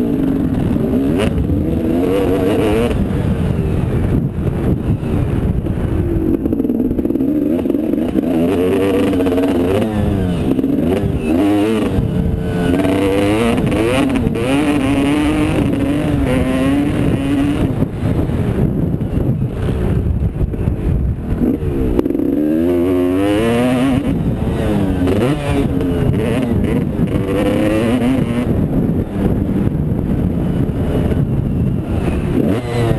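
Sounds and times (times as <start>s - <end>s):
steady low rumble: 0.0s - 32.5s
motocross bike engine revving: 0.0s - 32.9s.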